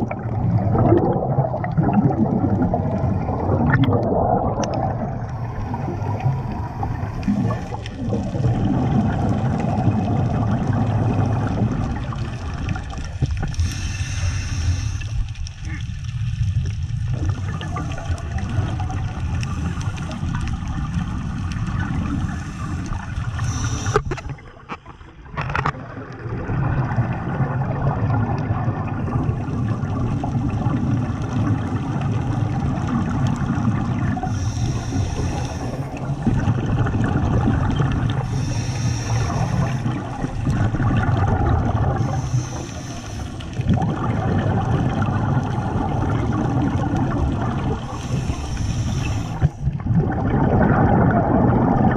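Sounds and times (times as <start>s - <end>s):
regulator bubbles gurgling: 0.0s - 51.9s.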